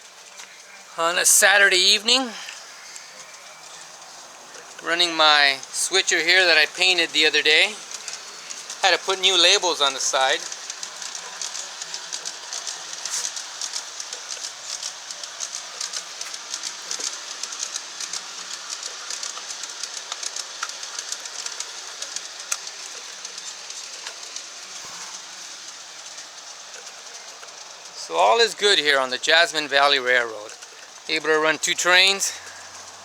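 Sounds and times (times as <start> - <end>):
model train wheels and motors rushing: 0.0 - 33.0
wheels clicking on rails: 0.0 - 33.0.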